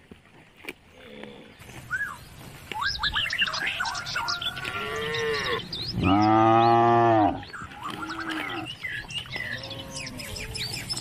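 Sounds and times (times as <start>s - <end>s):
birds chirping: 0.8s - 11.0s.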